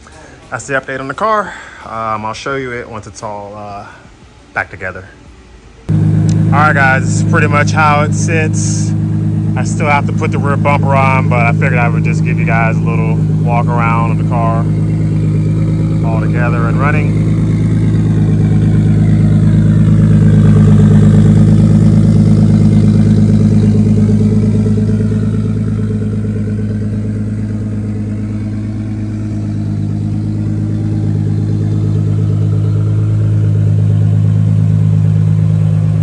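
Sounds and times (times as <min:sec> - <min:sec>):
car engine idling: 0:05.5 - 0:36.0.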